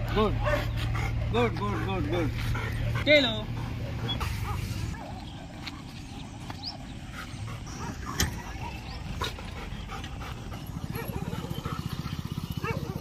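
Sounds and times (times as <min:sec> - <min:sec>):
dogs whimpering and panting: 0:00.0 - 0:13.0.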